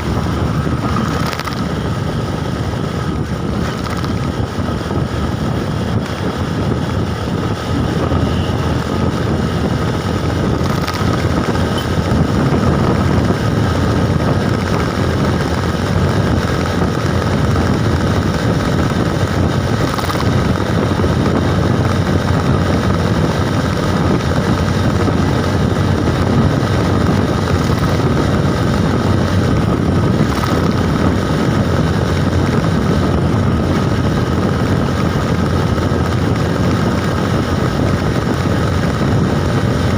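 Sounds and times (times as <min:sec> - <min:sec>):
road noise from moving bike: 0:00.0 - 0:39.9
wind on microphone: 0:00.0 - 0:39.9.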